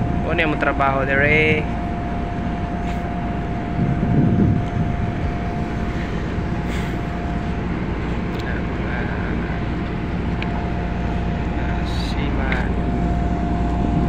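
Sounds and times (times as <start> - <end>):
boat diesel engines droning: 0.0 - 14.0
steady whine: 0.0 - 14.0.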